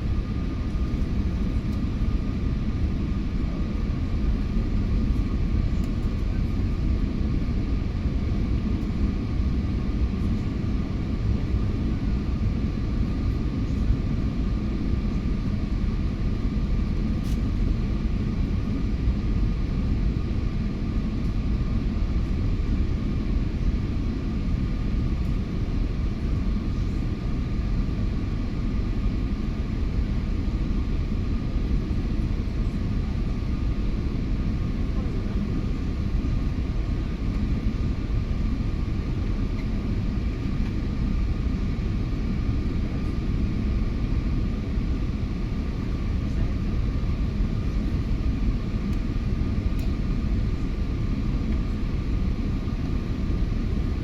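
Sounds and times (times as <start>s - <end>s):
airliner cabin rumble: 0.0s - 54.0s
faint steady whine: 0.0s - 54.0s.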